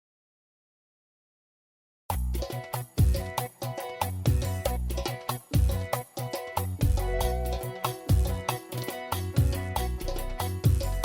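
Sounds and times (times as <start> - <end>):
music with steady beat and bass: 2.1 - 11.0.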